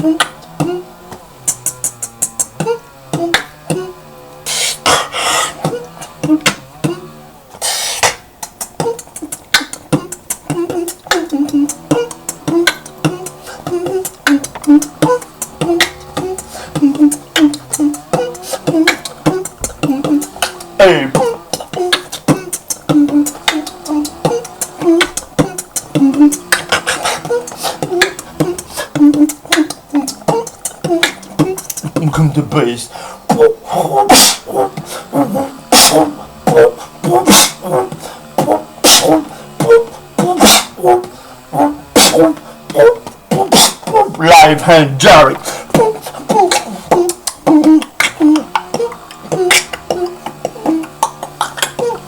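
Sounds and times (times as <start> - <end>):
hummed bass tones: 0.0 - 7.5, 8.2 - 52.0
human beatboxing: 0.0 - 52.0.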